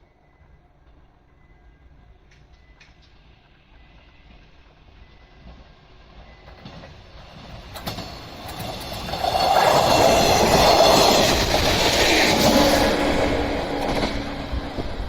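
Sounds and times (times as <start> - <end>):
train rumble: 0.0 - 15.0
train wheels clattering: 2.2 - 15.0.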